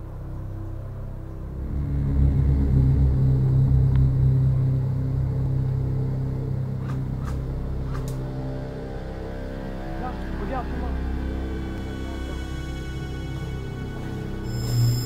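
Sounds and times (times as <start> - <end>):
deep bass drone: 0.0 - 15.0.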